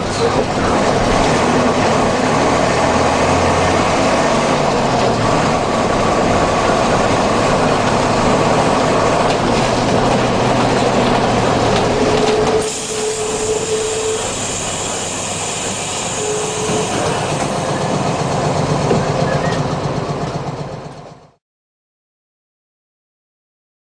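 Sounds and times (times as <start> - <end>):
diesel bus engine running: 0.0 - 21.4.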